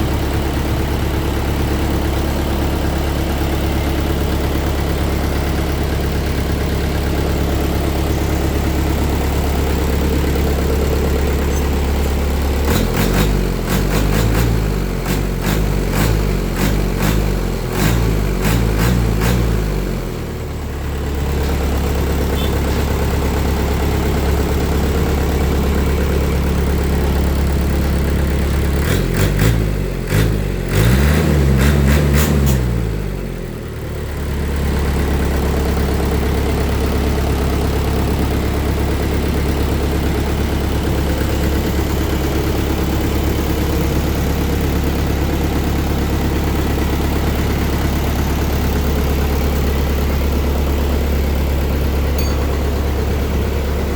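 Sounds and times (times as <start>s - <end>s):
diesel engine idling and revving: 0.0s - 53.9s.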